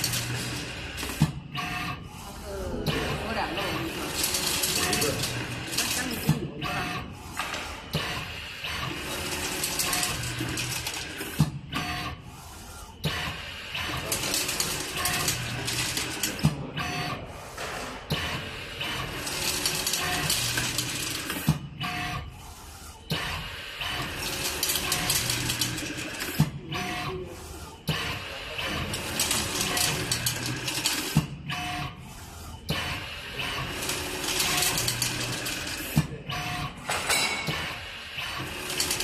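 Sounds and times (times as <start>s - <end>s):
machine whirring: 0.0s - 39.0s.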